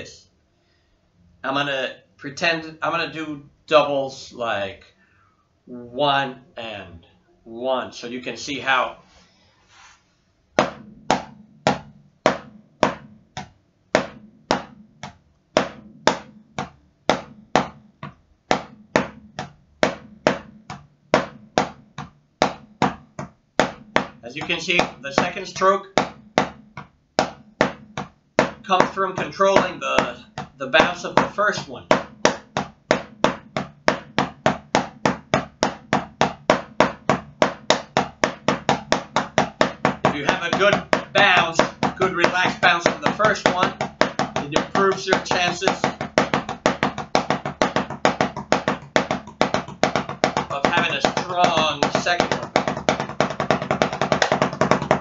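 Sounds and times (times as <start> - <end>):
drumsticks tapping practice pad: 10.6 - 55.0.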